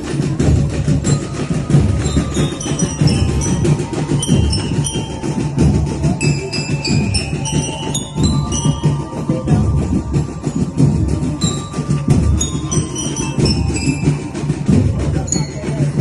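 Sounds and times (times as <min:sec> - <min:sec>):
band music: 0:00.0 - 0:16.0
bell-like melody: 0:00.0 - 0:16.0
busy percussion rhythm: 0:00.0 - 0:16.0.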